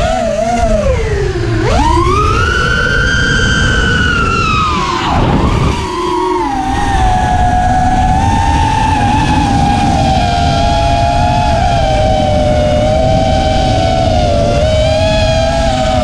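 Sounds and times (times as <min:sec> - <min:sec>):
drone motors whining: 0:00.0 - 0:16.0
low wind rumble: 0:00.0 - 0:16.0.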